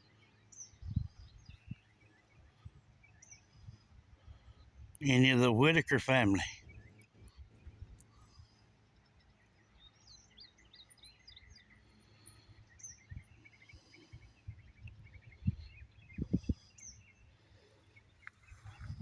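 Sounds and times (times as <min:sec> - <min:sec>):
small birds chirping: 0:00.0 - 0:05.1, 0:06.2 - 0:19.0.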